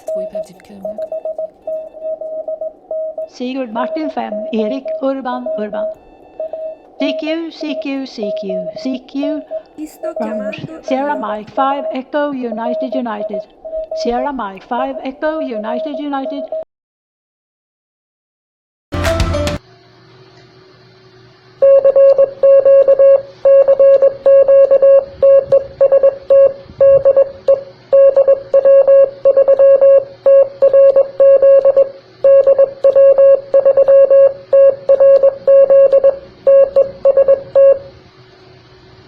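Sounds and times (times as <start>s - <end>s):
faint hum and hiss: 0.0s - 16.3s, 19.6s - 39.0s
morse code beeping: 0.0s - 16.6s, 21.6s - 37.9s.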